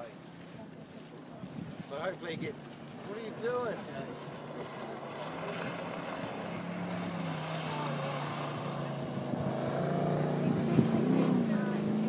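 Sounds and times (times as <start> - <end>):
motorboat engine drone: 0.0 - 12.0.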